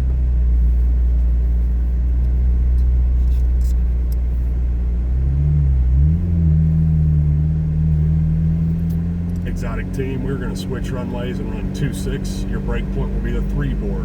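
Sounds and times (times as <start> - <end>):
car engine drone from cabin: 0.0 - 14.0.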